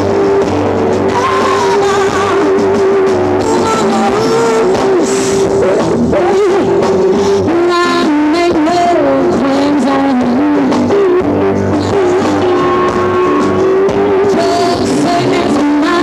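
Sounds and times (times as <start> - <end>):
bending guitar lead notes: 0.0 - 16.0
blues-rock band playing: 0.0 - 16.0.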